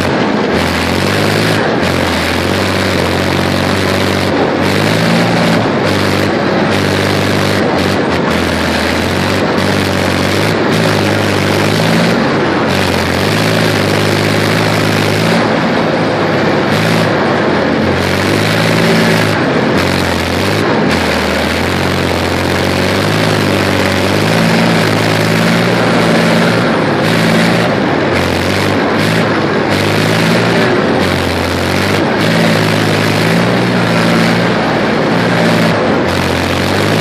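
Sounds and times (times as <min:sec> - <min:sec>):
diesel engine running: 0:00.0 - 0:37.0
tracked running gear noise: 0:00.0 - 0:37.0.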